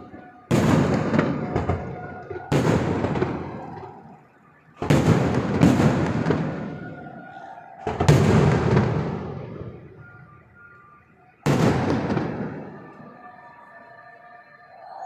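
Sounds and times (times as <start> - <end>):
fireworks exploding: 0.0 - 13.4.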